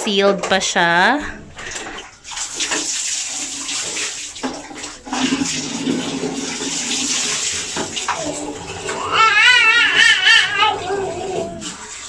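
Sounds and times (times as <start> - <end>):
water running and splashing: 0.6 - 12.0.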